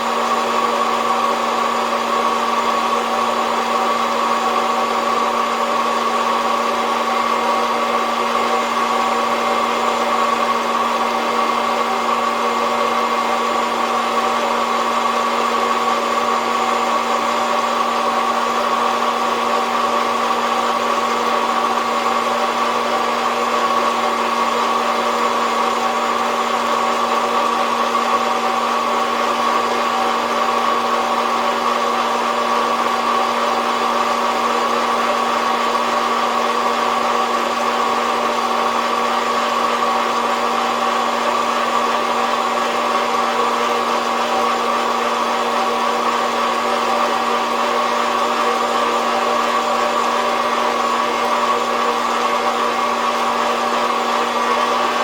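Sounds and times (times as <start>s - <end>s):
coffee roaster fan blowing air: 0.0s - 55.0s.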